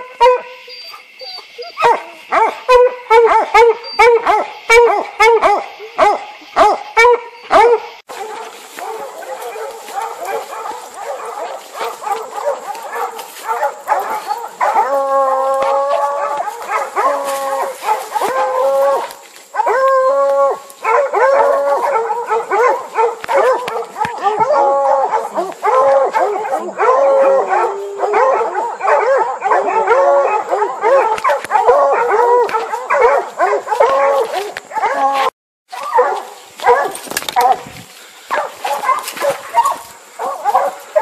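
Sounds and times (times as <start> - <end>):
hounds baying: 0.0 - 41.0.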